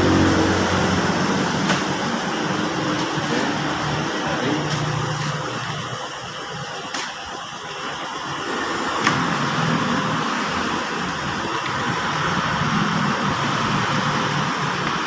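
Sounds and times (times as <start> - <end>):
machine hissing and humming: 0.0 - 15.0.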